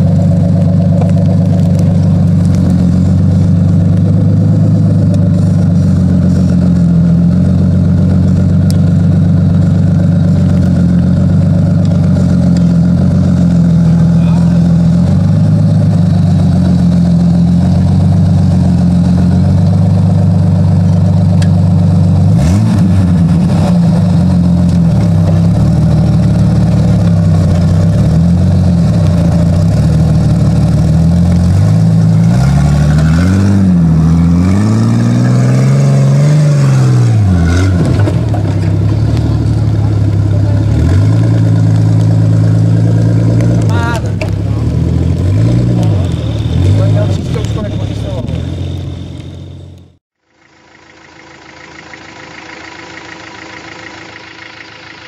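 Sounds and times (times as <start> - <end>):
car engine revving under load: 0.0 - 50.0.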